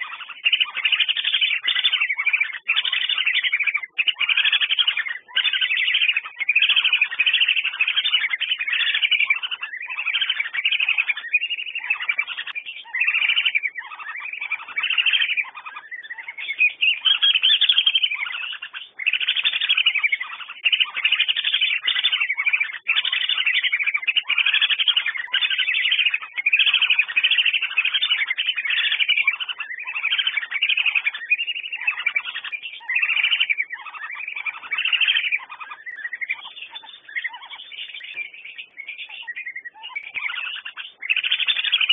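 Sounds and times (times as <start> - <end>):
ducks whistling calls: 0.0 - 41.9.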